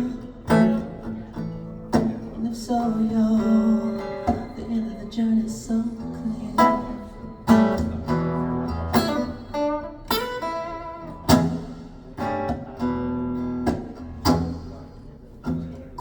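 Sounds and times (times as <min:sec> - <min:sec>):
guitar chords over loudspeakers: 0:00.0 - 0:16.0.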